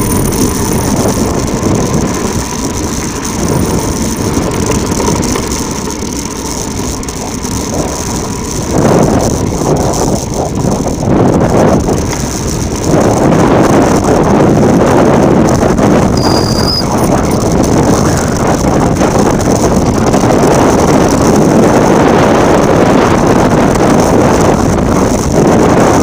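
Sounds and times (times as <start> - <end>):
bicycle rolling over rough ground: 0.0 - 26.0
wind rushing over microphone: 0.0 - 26.0.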